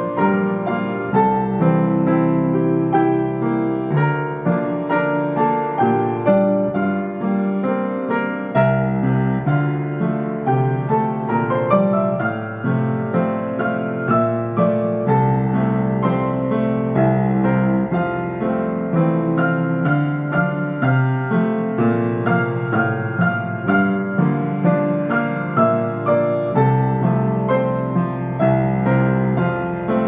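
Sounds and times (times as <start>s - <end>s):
grand piano playing: 0.0s - 30.0s.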